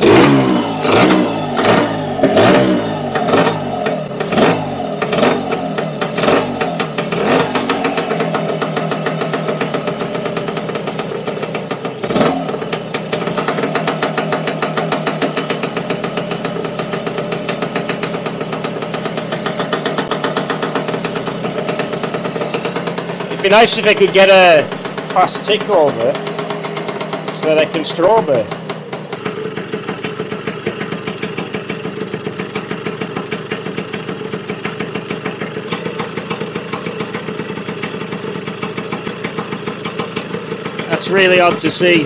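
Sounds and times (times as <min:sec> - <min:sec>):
scooter engine revving and idling: 0:00.0 - 0:42.0.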